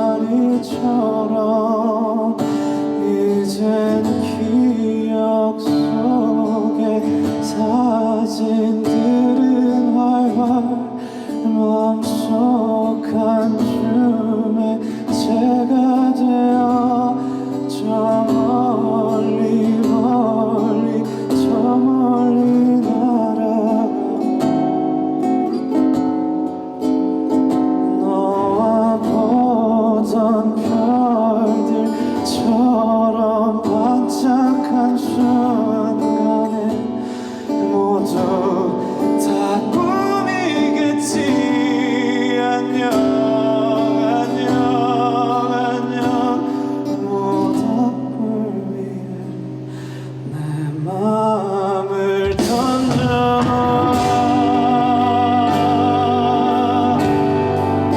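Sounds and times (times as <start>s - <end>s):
person singing: 0.0s - 25.9s, 26.6s - 57.9s
live band with guitar: 0.0s - 57.9s.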